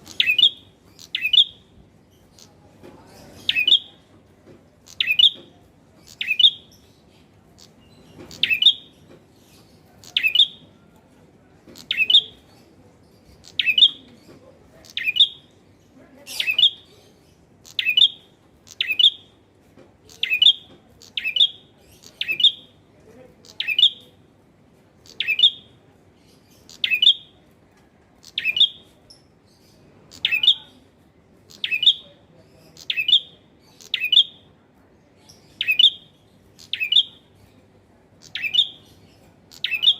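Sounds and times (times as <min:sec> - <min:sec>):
bird chirping: 0:00.0 - 0:11.0, 0:11.7 - 0:19.4, 0:20.0 - 0:22.8, 0:23.4 - 0:24.1, 0:25.0 - 0:27.4, 0:28.2 - 0:34.5, 0:35.2 - 0:39.9.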